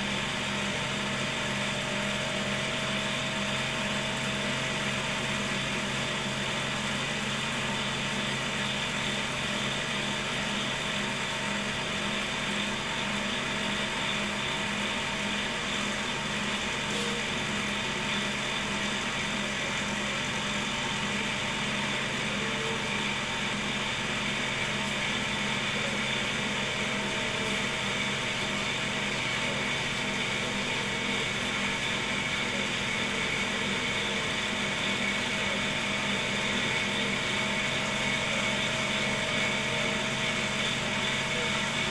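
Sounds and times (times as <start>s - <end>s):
cotton candy machine humming: 0.0s - 41.9s.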